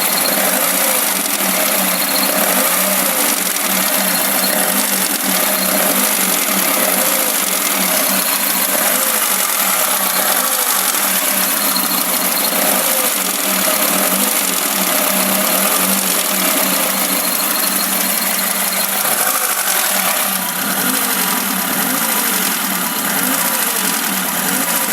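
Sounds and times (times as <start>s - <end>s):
car engine revving: 0.0s - 24.9s
engine knocking: 0.0s - 24.9s.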